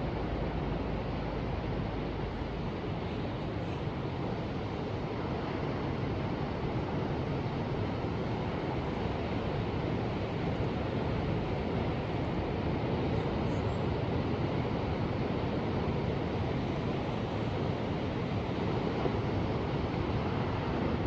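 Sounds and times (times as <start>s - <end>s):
ocean surf waves: 0.0s - 21.0s
wind rumble on microphone: 0.0s - 21.0s.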